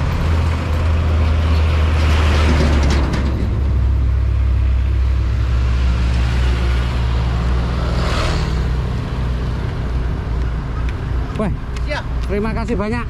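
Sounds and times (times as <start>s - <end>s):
diesel truck engine droning: 0.0s - 11.8s.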